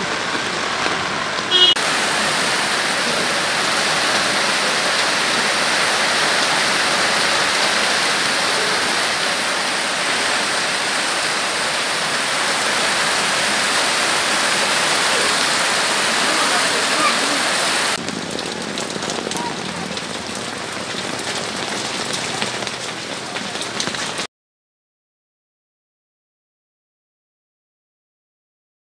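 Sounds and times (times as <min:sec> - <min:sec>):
heavy rain and hail on ground: 0:00.0 - 0:24.3.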